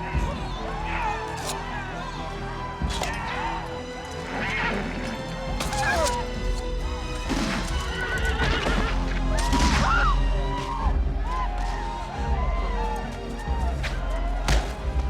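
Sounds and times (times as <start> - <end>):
horses whinnying: 0.0 - 15.0
orchestral music: 0.0 - 15.0.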